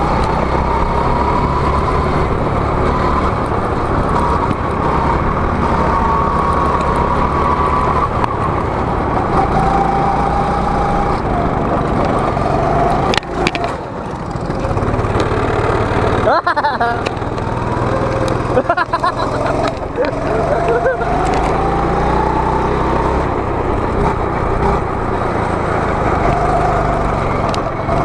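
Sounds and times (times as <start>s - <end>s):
go-kart engine whining: 0.0s - 28.0s.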